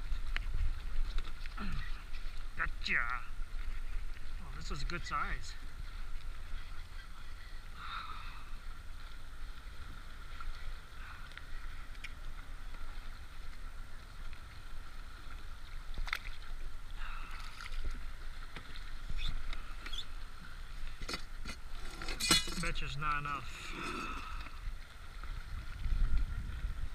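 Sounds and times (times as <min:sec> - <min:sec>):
water moving around hull: 0:00.0 - 0:26.9
wind rumbling on microphone: 0:00.0 - 0:26.9.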